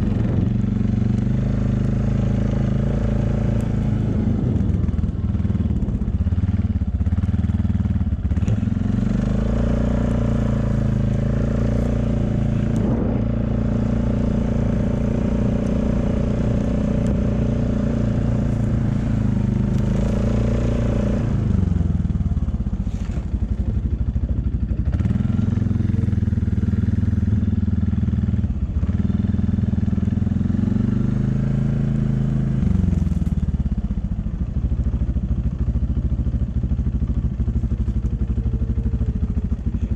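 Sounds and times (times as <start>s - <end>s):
vehicle engine running under load: 0.0s - 39.9s.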